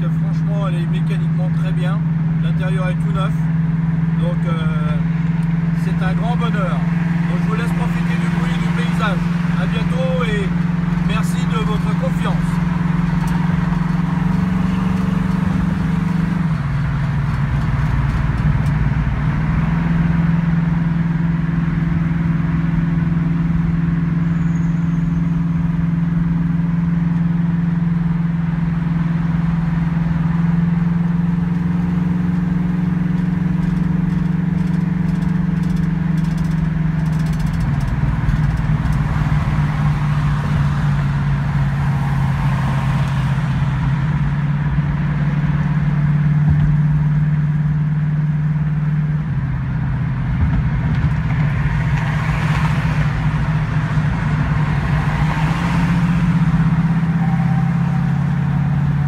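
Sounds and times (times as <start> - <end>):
car engine cruising: 0.0 - 59.0
road and wind noise: 0.0 - 59.0.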